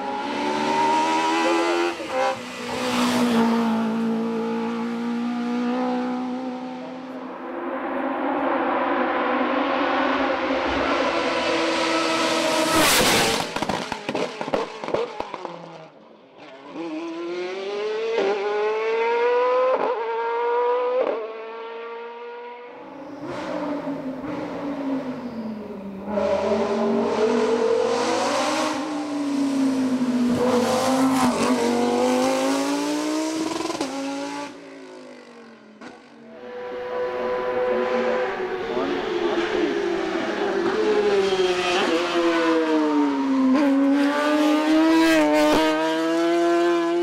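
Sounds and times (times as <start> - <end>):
race car engine revving: 0.0 - 15.8, 23.2 - 34.6, 35.8 - 47.0
race car passing: 0.0 - 47.0.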